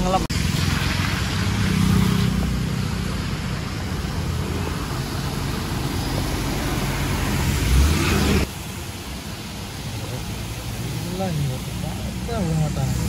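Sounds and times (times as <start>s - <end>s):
rain hiss: 0.0s - 13.0s
road noise: 0.0s - 13.0s.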